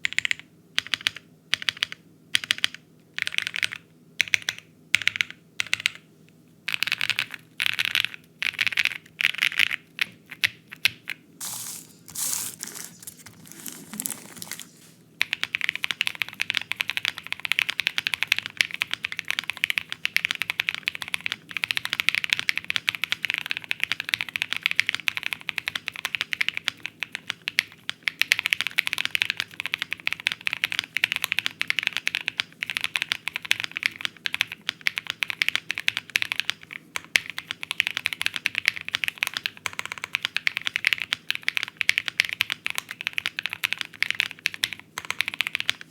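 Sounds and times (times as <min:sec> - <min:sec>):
mechanical keyboard typing: 0:00.0 - 0:06.0, 0:06.7 - 0:45.9.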